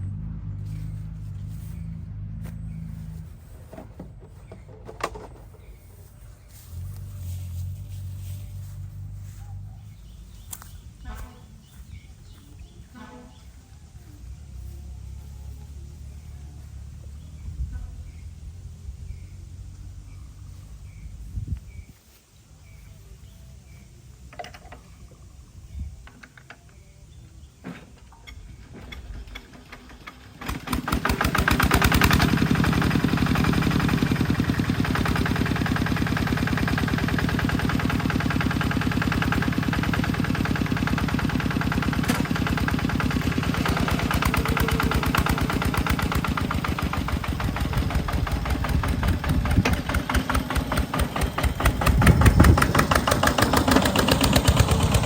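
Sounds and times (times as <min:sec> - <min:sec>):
engine running: 0:00.0 - 0:21.5, 0:28.6 - 0:55.0.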